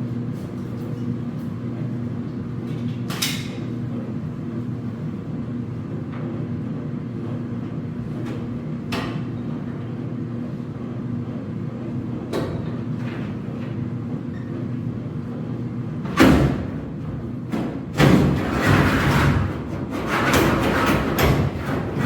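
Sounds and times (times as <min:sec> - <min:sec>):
clothes dryer rumbling: 0:00.0 - 0:22.0.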